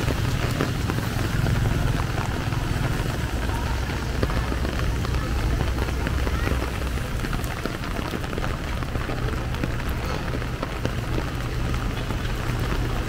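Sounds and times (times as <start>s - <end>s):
heavy rain on street: 0.0s - 13.0s
low continuous rumble: 0.0s - 13.0s.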